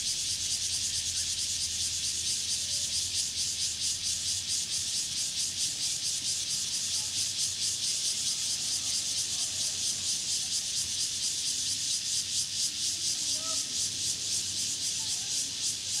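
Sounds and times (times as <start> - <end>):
cicadas and insects chorus: 0.0 - 16.0.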